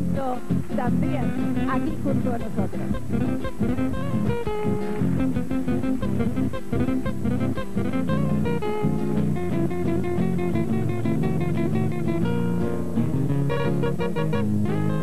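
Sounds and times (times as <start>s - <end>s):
band playing with acoustic guitars: 0.0s - 15.0s.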